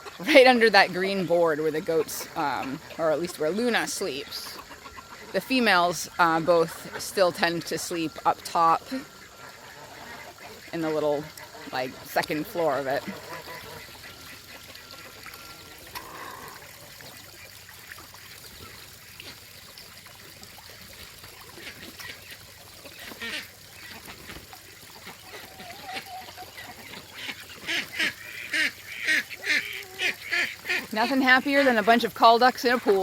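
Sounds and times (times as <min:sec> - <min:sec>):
ducks quacking: 0:00.0 - 0:19.0, 0:21.5 - 0:33.0
running water trickling: 0:00.0 - 0:33.0.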